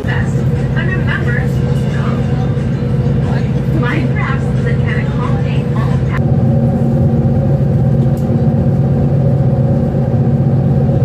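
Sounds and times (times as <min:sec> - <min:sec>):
ferry engines droning: 0:00.0 - 0:11.0.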